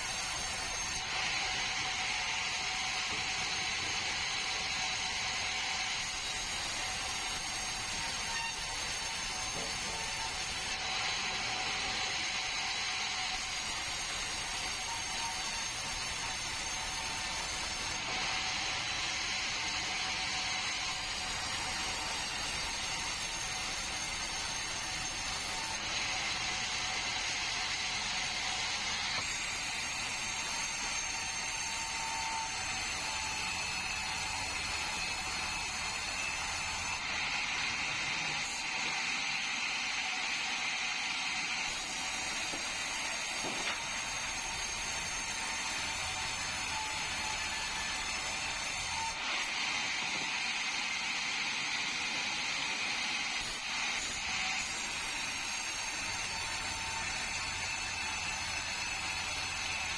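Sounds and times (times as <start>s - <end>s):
sawmill saw cutting log: 0.0s - 59.9s.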